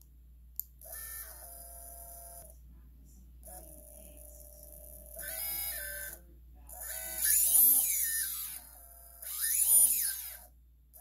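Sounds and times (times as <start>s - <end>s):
drone motor whine: 0.8s - 2.5s, 3.4s - 11.0s.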